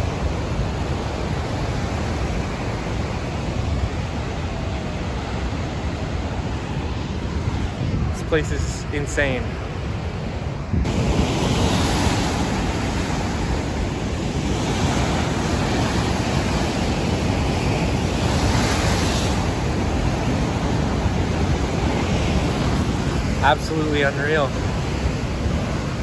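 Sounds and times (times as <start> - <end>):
ocean surf breaking on rocks: 0.0 - 26.0.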